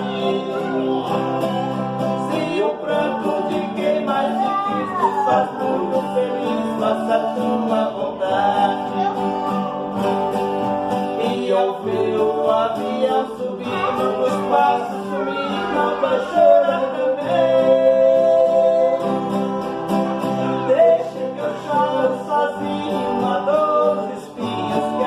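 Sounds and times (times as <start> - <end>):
country ballad singing: 0.0 - 25.0
guitar accompaniment: 0.0 - 25.0.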